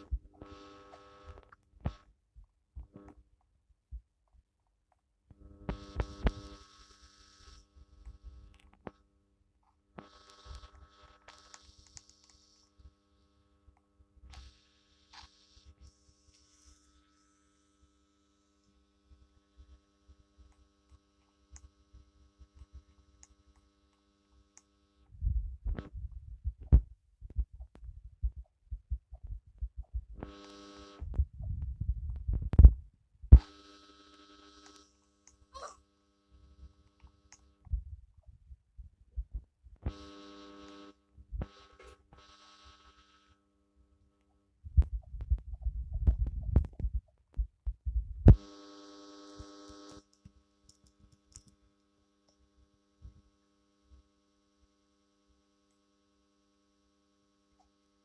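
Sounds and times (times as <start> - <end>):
steady buzzing tone: 0.0 - 2.1, 5.3 - 9.2, 9.9 - 38.0, 39.1 - 58.0.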